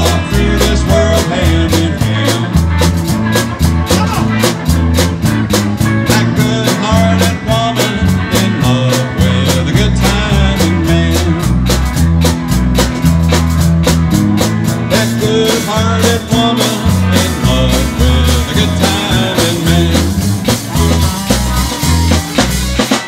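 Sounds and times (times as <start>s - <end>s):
bass guitar: 0.0s - 23.0s
drum kit beat: 0.0s - 23.0s
electric guitars: 0.0s - 23.0s.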